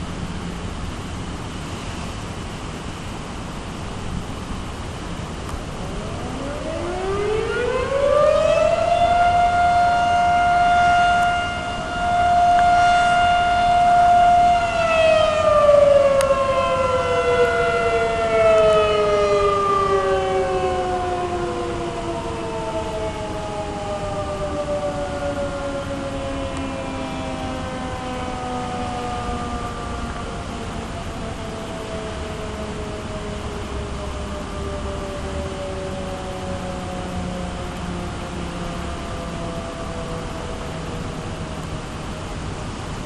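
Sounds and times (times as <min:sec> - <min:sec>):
rushing background noise: 0:00.0 - 0:43.0
warning siren wailing: 0:04.2 - 0:43.0.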